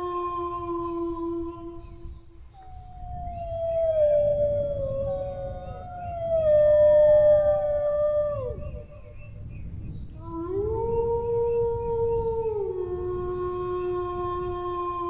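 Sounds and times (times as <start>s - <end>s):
dog howling: 0.0s - 2.0s, 2.6s - 9.2s, 10.2s - 15.0s.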